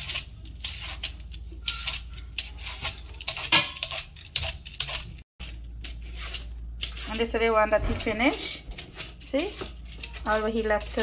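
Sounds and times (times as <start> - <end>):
peeler scraping squash skin: 0.0 - 11.0.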